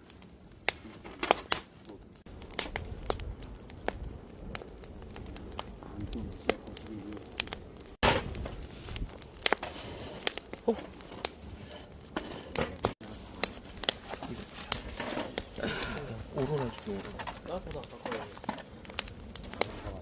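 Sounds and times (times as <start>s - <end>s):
campfire wood crackling: 0.0s - 20.0s
low hiss of burning: 0.0s - 20.0s.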